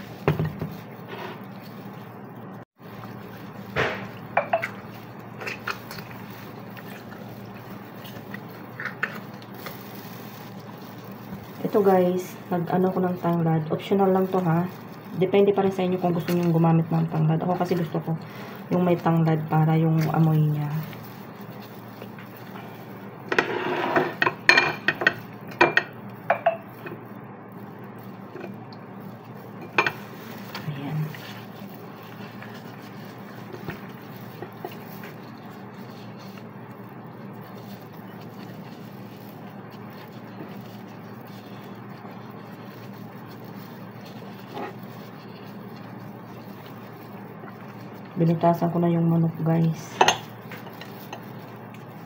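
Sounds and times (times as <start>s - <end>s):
wet squelching of raw chicken: 0.0s - 23.3s, 25.2s - 52.0s
steady low hum: 0.0s - 52.0s.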